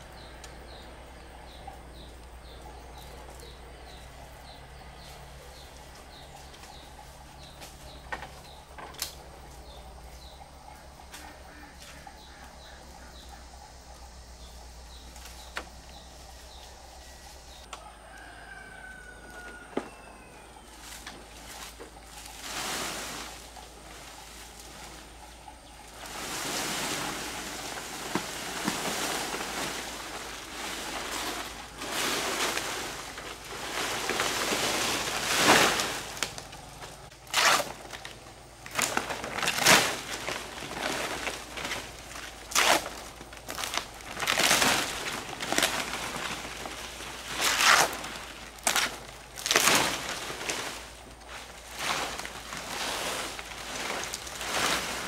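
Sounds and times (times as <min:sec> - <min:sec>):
dry palm leaves rustling: 0:00.0 - 0:55.0.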